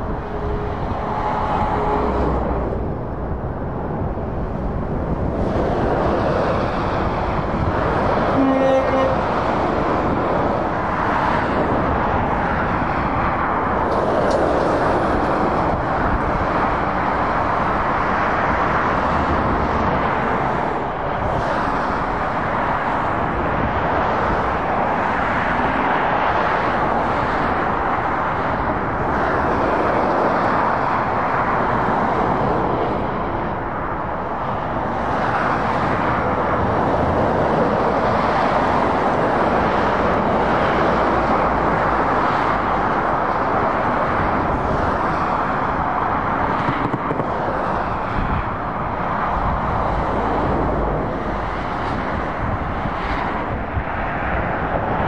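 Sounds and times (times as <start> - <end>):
lorries and cars driving past: 0.0 - 55.0.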